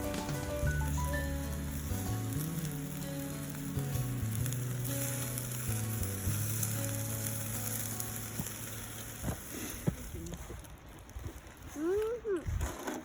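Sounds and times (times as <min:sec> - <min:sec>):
food sizzling on grill: 0:00.0 - 0:12.2.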